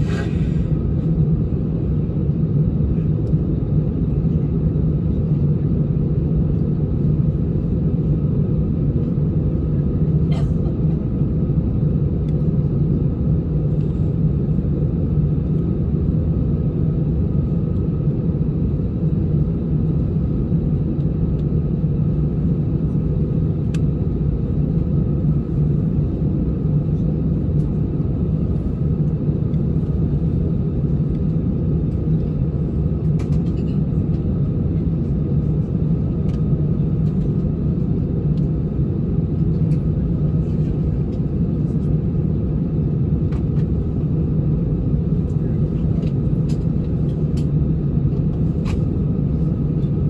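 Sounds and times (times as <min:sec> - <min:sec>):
jet engines idling in cabin: 0:00.0 - 0:50.0.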